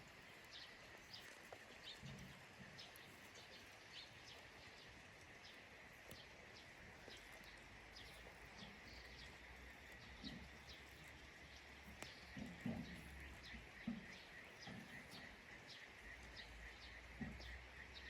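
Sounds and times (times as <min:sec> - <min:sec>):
birds chirping: 0:00.4 - 0:18.0.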